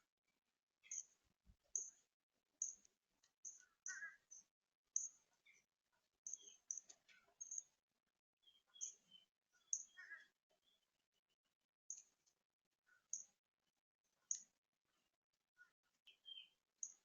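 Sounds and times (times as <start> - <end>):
small birds chirping: 0.8 - 7.8, 8.4 - 13.4, 14.1 - 17.0.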